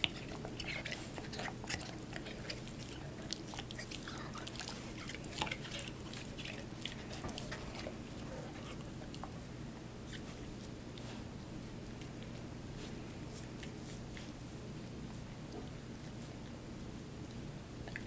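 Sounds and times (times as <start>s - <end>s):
pet chewing with crunching clicks: 0.0s - 18.0s.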